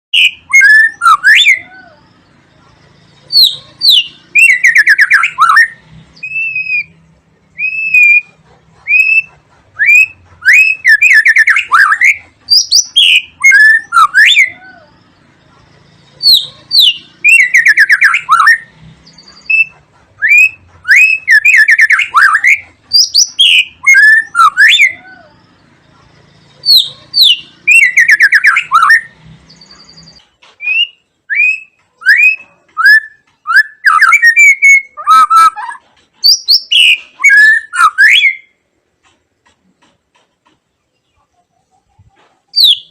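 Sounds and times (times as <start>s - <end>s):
songbird whistles and trills: 0.1s - 38.6s, 41.0s - 42.9s.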